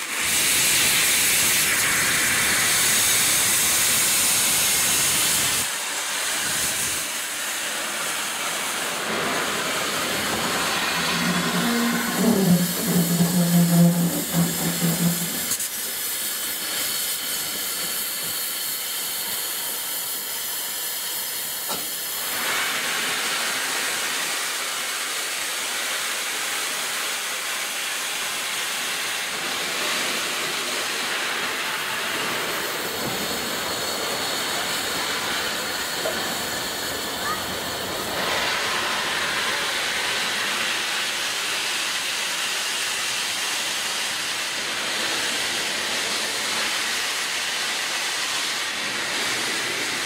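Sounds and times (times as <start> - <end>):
steam locomotive hissing: 0.0 - 50.0.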